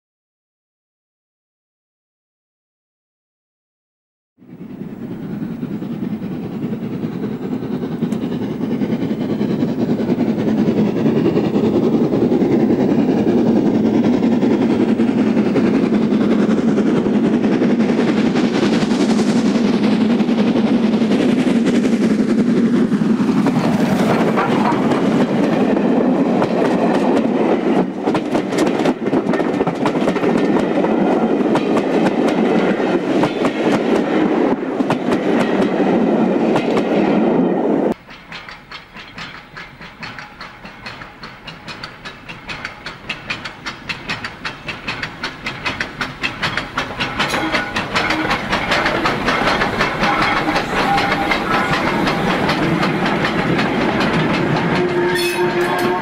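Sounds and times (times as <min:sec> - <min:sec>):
steam locomotive passing: 0:04.4 - 0:56.0
train wheels clicking on rail joints: 0:04.5 - 0:37.2, 0:37.9 - 0:56.0.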